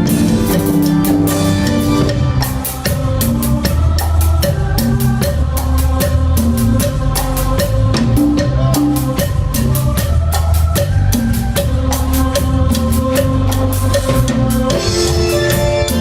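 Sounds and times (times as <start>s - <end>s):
deep bass line: 0.0s - 16.0s
drum kit beat: 0.0s - 16.0s.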